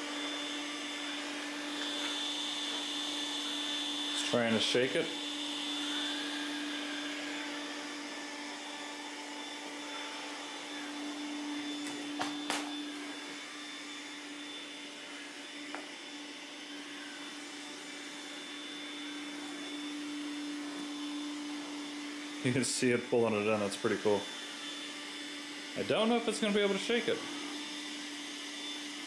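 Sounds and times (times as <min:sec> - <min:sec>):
robot vacuum humming: 0:00.0 - 0:29.0.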